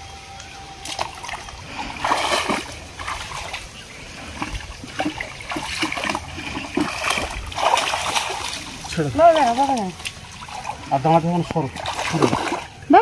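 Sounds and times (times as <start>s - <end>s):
pond water splashing: 0.0s - 13.0s.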